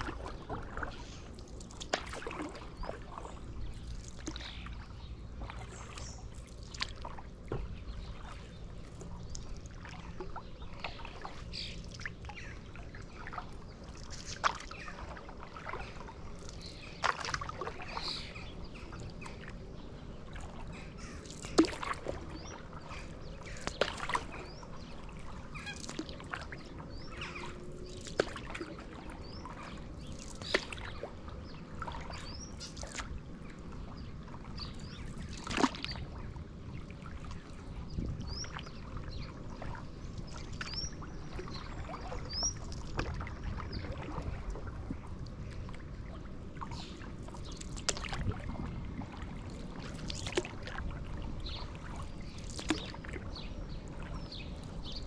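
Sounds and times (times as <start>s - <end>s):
water splash and dripping: 0.0s - 19.6s, 20.2s - 33.6s, 34.2s - 36.2s, 36.8s - 55.0s
paddle pulling through water: 0.0s - 55.0s
birds chirping: 0.1s - 36.0s, 37.3s - 43.8s, 51.4s - 55.0s.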